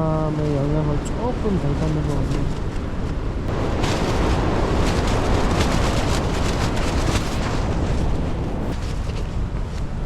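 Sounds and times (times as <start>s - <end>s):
strong wind battering tent: 0.0s - 10.0s
tent fabric flapping: 1.9s - 10.0s.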